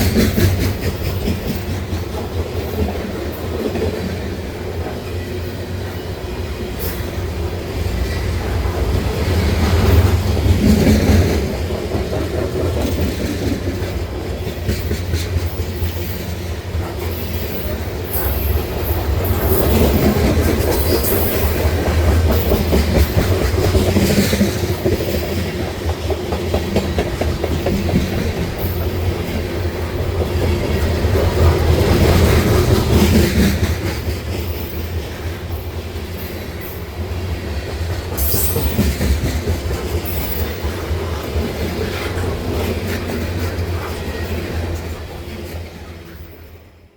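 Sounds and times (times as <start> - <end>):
wheels clacking over rail joints: 0.0 - 46.3
freight train rumble: 0.0 - 46.9.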